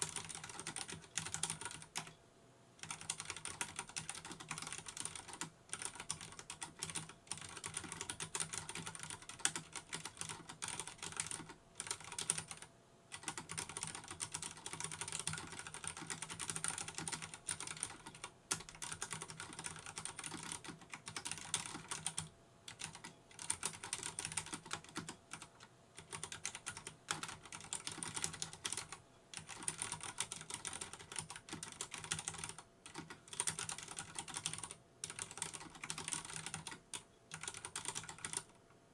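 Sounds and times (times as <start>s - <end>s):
fast mechanical keyboard typing: 0.0s - 2.1s, 2.8s - 38.5s.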